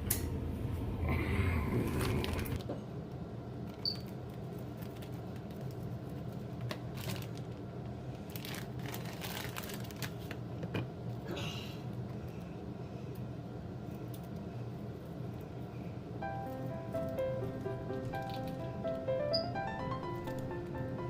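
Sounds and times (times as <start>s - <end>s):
steady low hum: 0.0s - 6.7s, 10.4s - 21.0s.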